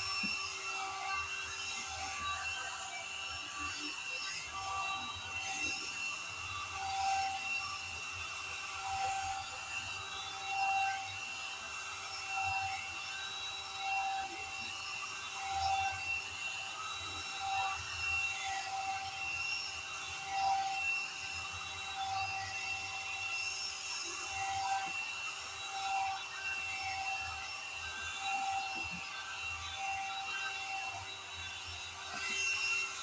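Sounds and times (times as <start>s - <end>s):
hot air brush motor whine: 0.0s - 33.0s.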